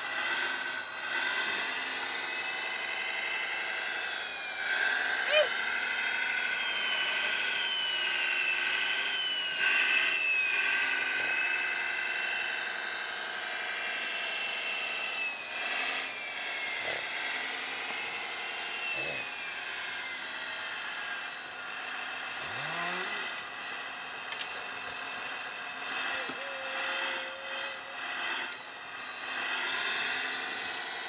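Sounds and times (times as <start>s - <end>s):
small electric motor whine: 0.0s - 31.0s.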